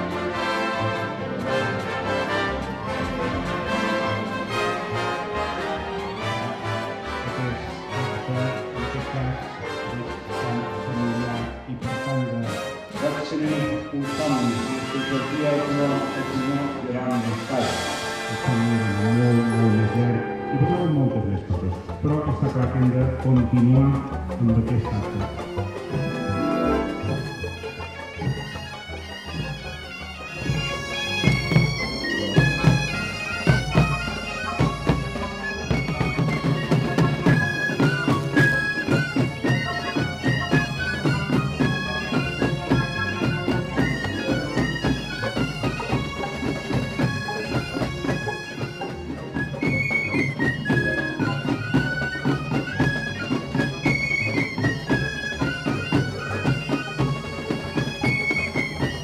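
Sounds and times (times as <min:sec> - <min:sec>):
piped melody: 0:00.0 - 0:59.0.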